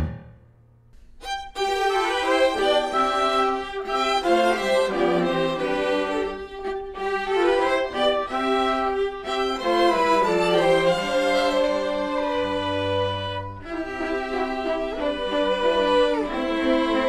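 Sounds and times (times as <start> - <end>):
bowed strings melody: 0.0 - 17.0.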